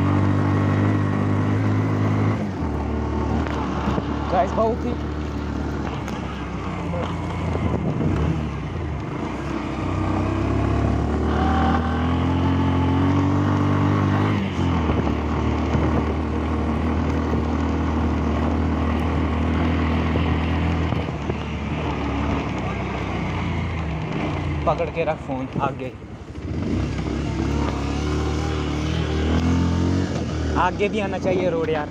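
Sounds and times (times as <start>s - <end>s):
off-road vehicle engine under load: 0.0s - 31.9s.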